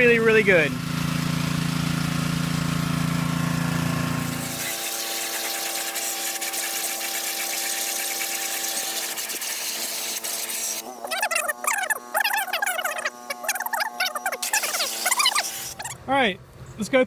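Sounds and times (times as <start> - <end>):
pressure washer engine running: 0.7 - 16.0.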